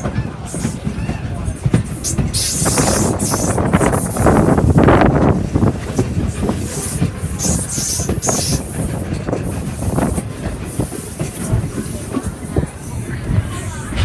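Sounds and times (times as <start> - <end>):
train wheels clicking on rails: 0.0 - 14.0.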